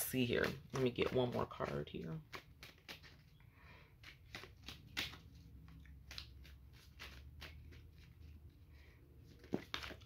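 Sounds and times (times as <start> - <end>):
cards being shuffled: 0.0 - 10.0.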